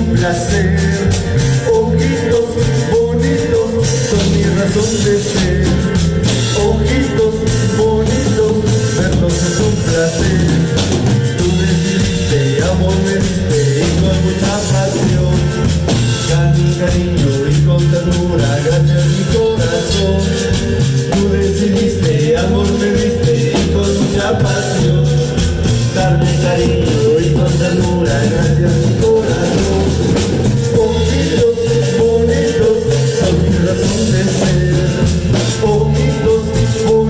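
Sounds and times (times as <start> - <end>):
bass line: 0.0 - 37.0
steady percussion: 0.0 - 37.0.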